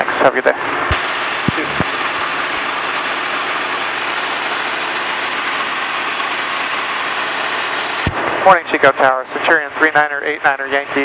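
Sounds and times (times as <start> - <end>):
small plane engine drone: 0.0 - 11.0.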